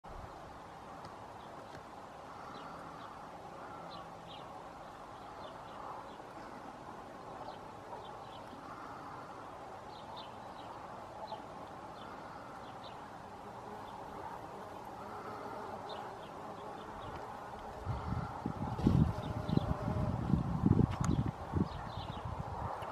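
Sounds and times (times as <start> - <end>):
small birds chirping: 0.1 - 22.9.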